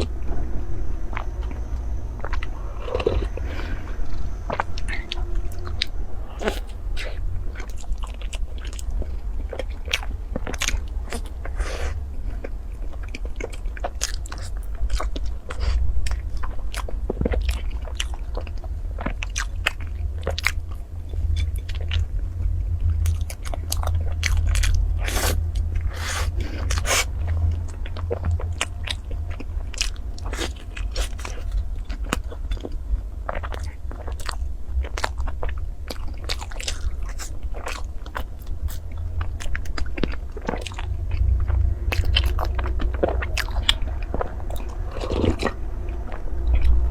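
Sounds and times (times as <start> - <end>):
low steady rumble: 0.0 - 46.9
person chewing and biting food: 2.2 - 22.1, 22.8 - 46.8.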